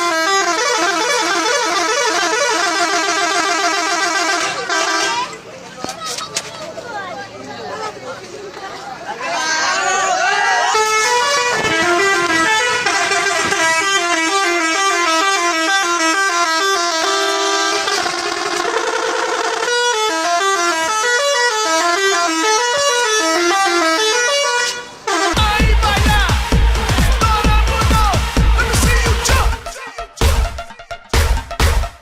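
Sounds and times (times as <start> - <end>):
musical bus horn tune: 0.0 - 5.4, 9.4 - 32.0.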